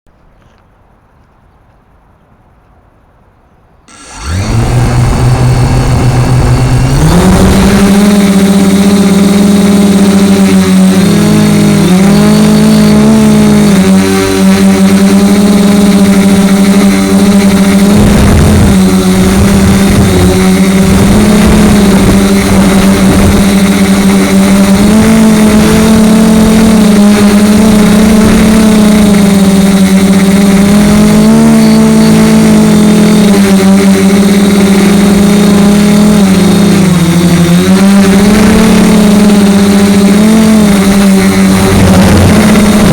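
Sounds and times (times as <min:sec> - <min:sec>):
drone motors humming: 0:03.9 - 0:42.9.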